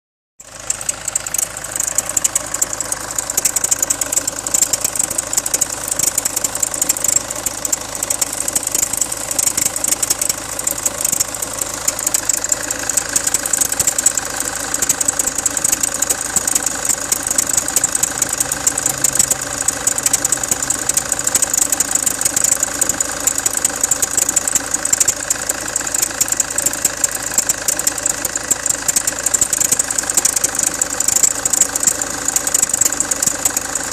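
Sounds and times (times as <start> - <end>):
car engine clattering: 0.4 - 33.9.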